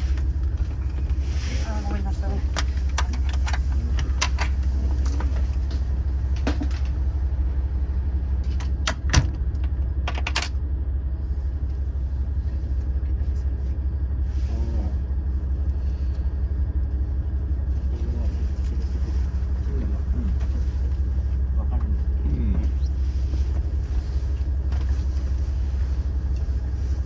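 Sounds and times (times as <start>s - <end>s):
diesel train rumble: 0.0s - 27.0s.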